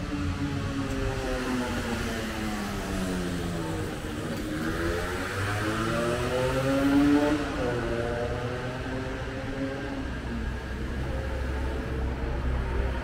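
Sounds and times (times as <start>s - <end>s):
vehicle engine accelerating: 1.1s - 13.0s.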